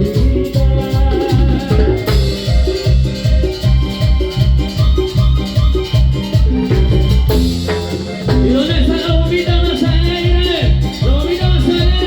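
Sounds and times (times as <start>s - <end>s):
bouncing bass and drum beat: 0.0s - 12.0s
instrumental melody line: 0.0s - 12.0s
live band music: 0.0s - 12.0s.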